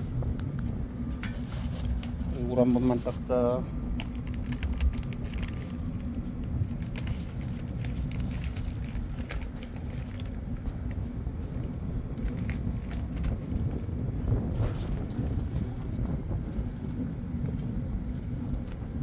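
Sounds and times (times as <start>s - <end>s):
ship machinery hum and rumble: 0.0s - 19.0s.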